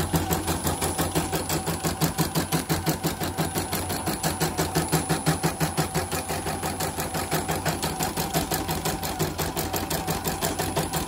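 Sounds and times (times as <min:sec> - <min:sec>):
embroidery machine stitching clatter: 0:00.0 - 0:11.0
motor hum: 0:00.0 - 0:11.0.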